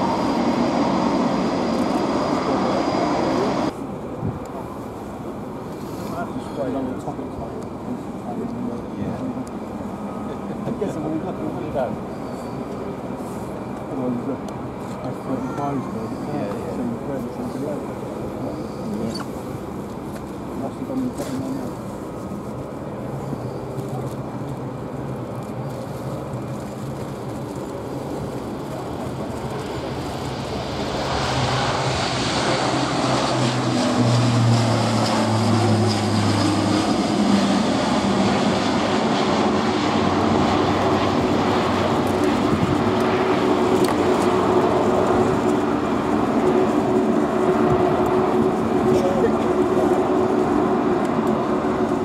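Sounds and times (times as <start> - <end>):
turboprop engines droning: 0.0 - 52.0.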